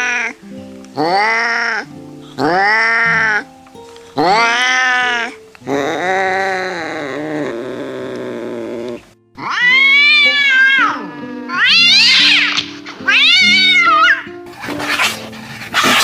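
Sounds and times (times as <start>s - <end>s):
angry cat yowling: 0.0s - 0.4s, 1.0s - 3.5s, 4.2s - 14.4s
background music held notes: 0.0s - 16.0s.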